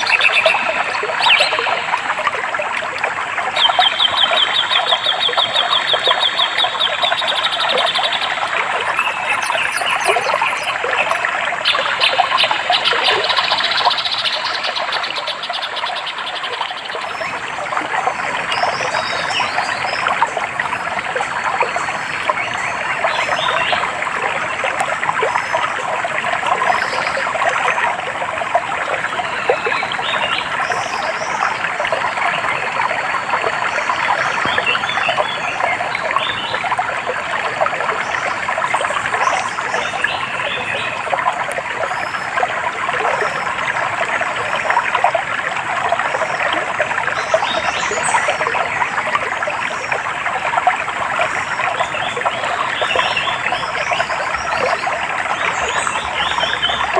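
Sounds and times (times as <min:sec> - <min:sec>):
stream trickling: 0:00.0 - 0:56.9.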